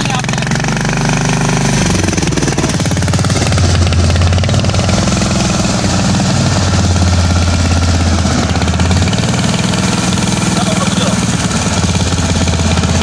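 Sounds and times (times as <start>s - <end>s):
generator engine at full throttle: 0.0s - 13.0s.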